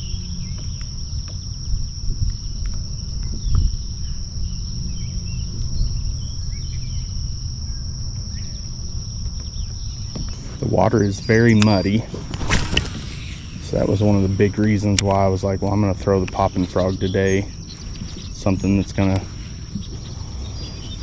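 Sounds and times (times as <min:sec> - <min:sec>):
crickets chirping: 0:00.0 - 0:21.0
low rumble: 0:00.0 - 0:21.0.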